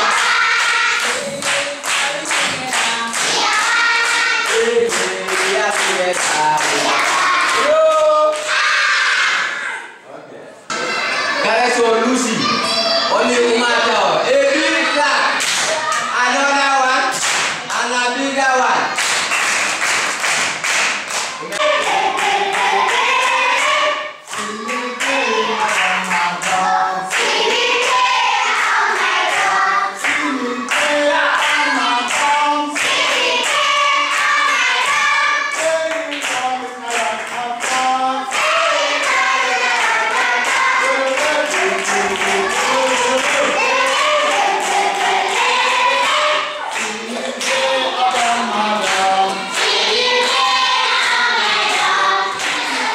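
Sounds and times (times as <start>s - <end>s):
hands clapping to a beat: 0.0s - 8.6s, 15.4s - 16.1s, 17.0s - 17.9s, 18.9s - 52.9s
children singing together: 0.0s - 10.0s, 10.7s - 11.6s, 21.3s - 52.9s.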